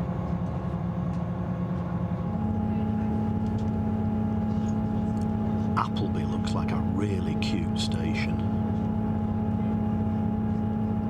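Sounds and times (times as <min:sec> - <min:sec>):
train diesel engine hum: 0:00.0 - 0:11.0.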